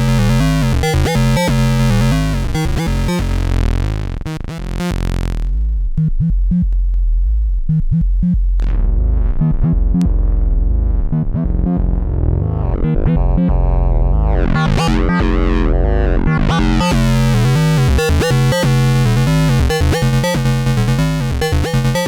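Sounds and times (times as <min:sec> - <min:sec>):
synthesizer bass sequence: 0:00.0 - 0:22.0.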